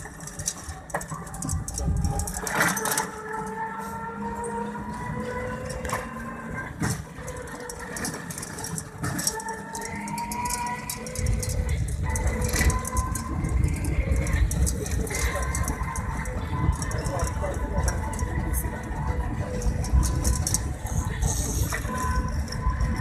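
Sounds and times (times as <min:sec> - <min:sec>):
road rumble: 0:00.0 - 0:23.0.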